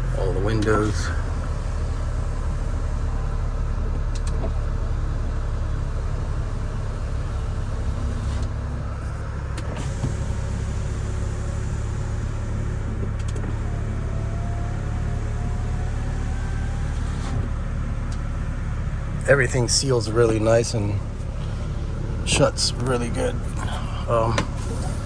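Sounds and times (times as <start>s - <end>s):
car low hum: 0.0s - 25.0s
power window motor whine: 0.2s - 19.2s, 21.0s - 25.0s.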